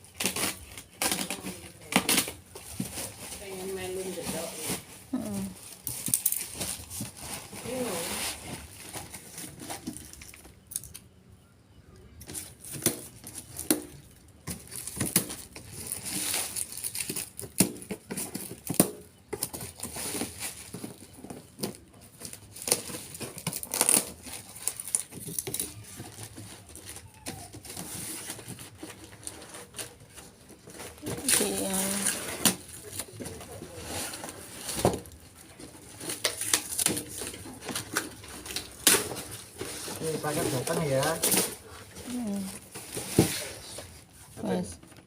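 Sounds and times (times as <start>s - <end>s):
packaging crinkling and rustling: 0.0s - 11.1s, 12.1s - 45.0s.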